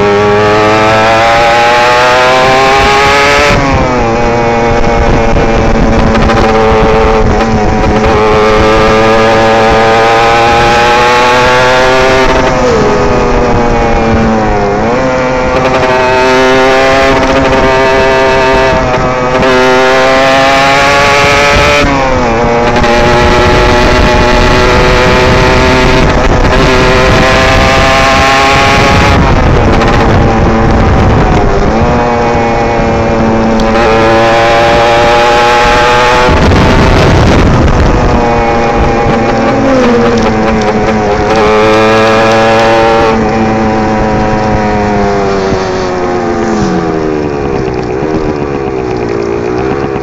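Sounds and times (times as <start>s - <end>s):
motorcycle engine at high revs: 0.0s - 50.0s
wind noise: 0.0s - 50.0s.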